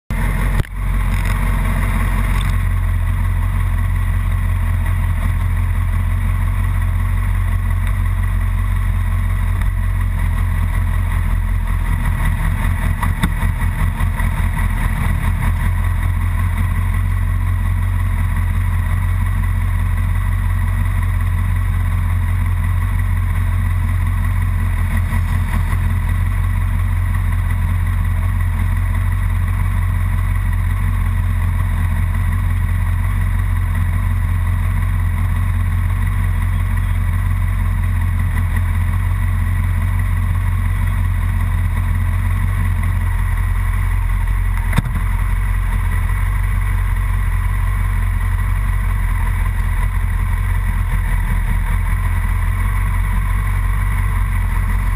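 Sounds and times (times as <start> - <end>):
motorcycle engine idling: 0.1 - 54.9.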